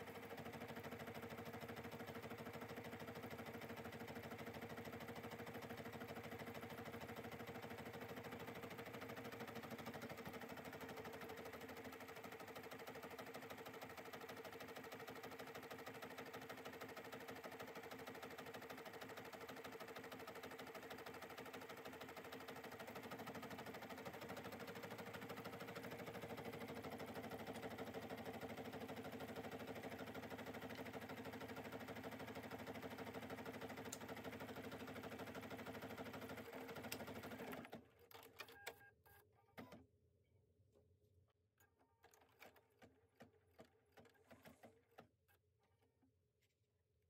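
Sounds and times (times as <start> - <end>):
embroidery machine stitching: 0.0 - 38.7.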